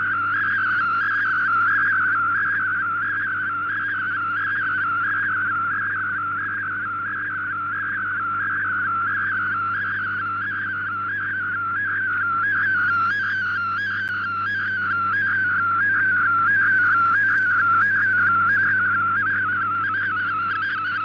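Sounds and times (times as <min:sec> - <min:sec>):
wavering whistling data tone: 0:00.0 - 0:21.0.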